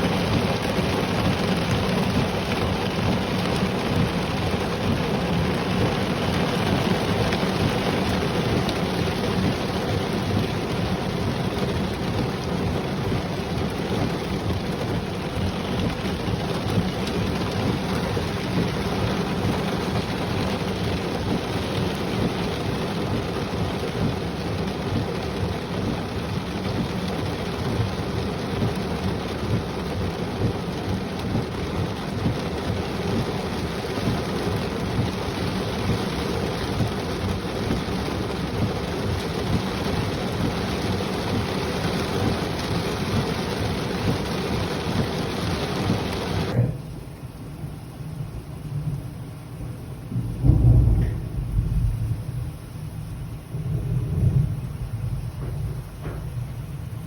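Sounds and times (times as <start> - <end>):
heavy rain: 0.0 - 57.0
low rumble of thunder: 0.0 - 57.0.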